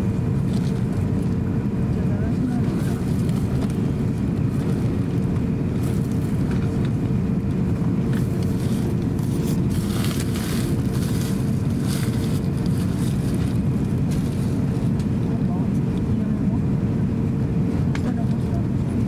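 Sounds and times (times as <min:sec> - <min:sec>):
low rumble of jet engines: 0:00.0 - 0:19.0.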